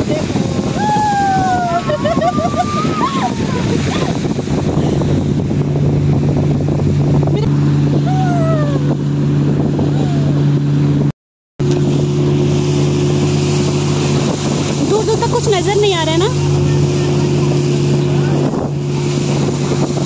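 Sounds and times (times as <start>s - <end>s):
rushing water: 0.0s - 20.0s
speedboat engine hum: 0.0s - 20.0s
wind noise: 0.0s - 20.0s.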